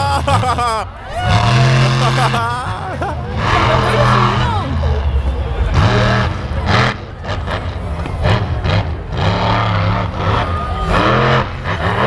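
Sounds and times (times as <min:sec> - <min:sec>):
monster truck engine surging: 0:00.0 - 0:12.0.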